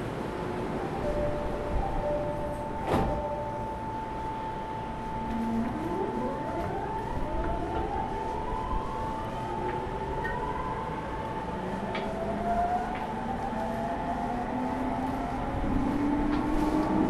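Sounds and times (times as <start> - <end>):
train running rumble: 0.0 - 17.0
train motors whining: 2.6 - 17.0.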